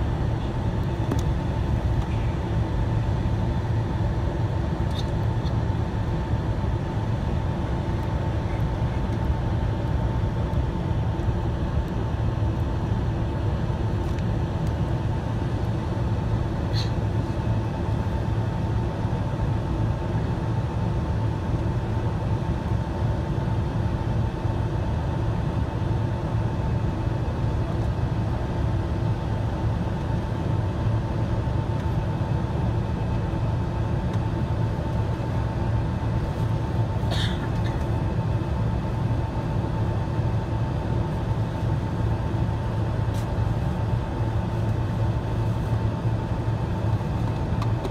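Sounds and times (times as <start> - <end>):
airliner cabin engine hum: 0.0 - 47.9.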